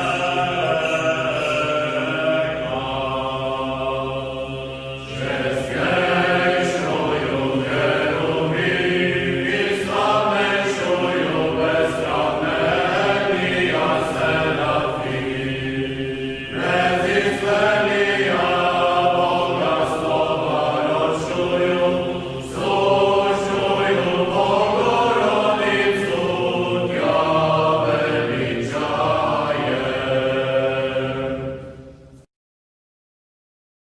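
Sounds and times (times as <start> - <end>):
voices chanting in chorus: 0.0 - 31.8.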